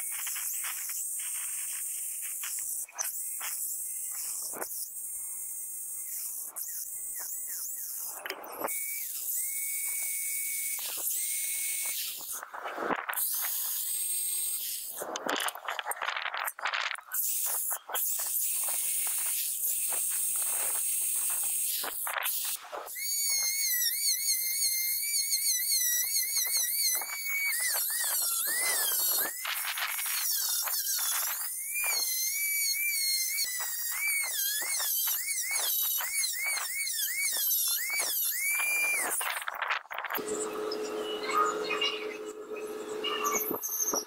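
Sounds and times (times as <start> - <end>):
high motor whine: 0.0 - 44.0
rotary tool sanding metal: 0.0 - 44.0.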